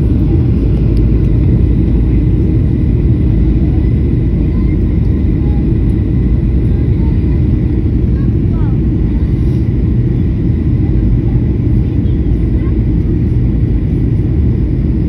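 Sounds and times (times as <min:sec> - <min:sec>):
jet airliner cabin roar: 0:00.0 - 0:15.0.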